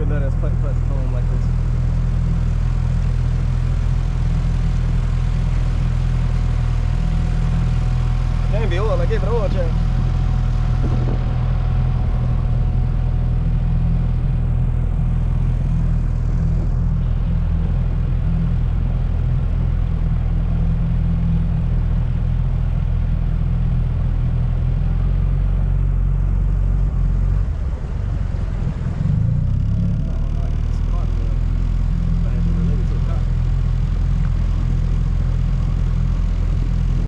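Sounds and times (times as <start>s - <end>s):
outboard motor puttering: 0.0s - 37.0s.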